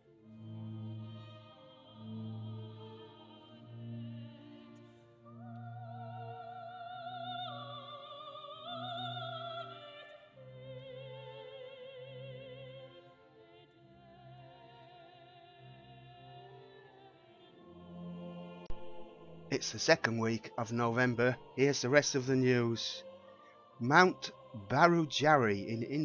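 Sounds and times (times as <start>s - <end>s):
operatic high voice singing: 0.4s - 13.6s, 14.2s - 26.0s.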